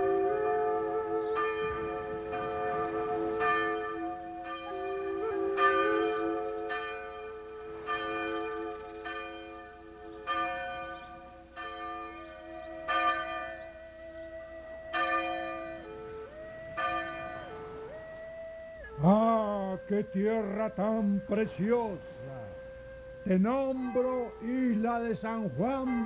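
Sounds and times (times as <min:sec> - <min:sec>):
bells ringing in slow peal: 0:00.0 - 0:26.0.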